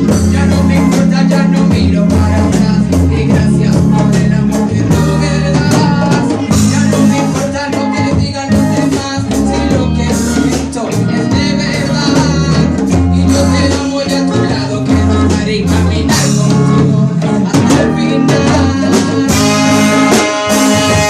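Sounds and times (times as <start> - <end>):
guitar: 0.0 - 21.0
heavy bassline: 0.0 - 21.0
person singing: 0.0 - 21.0
reggae music over sound system: 0.0 - 21.0.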